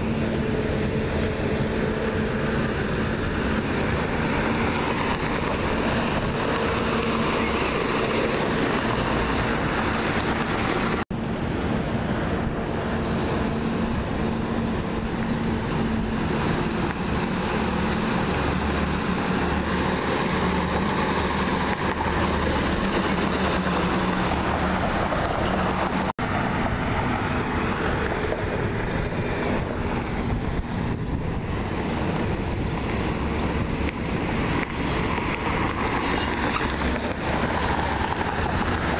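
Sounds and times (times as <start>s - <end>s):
traffic and tyre noise: 0.0s - 38.9s
truck engines droning: 0.0s - 38.9s.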